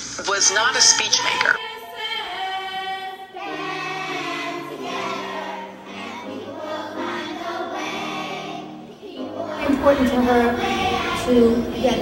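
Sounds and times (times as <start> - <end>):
children's choir singing: 0.7 - 12.0.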